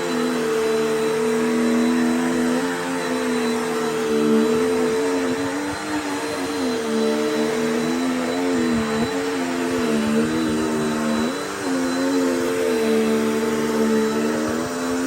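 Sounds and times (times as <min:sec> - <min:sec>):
vacuum cleaner motor whine: 0:00.0 - 0:15.0.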